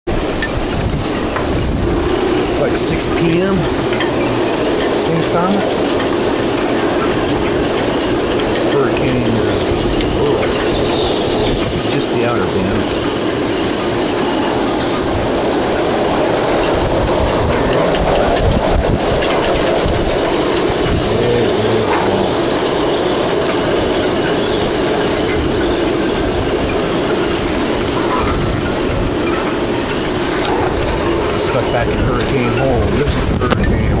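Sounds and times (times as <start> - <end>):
strong wind buffeting microphone: 0.1 - 34.0.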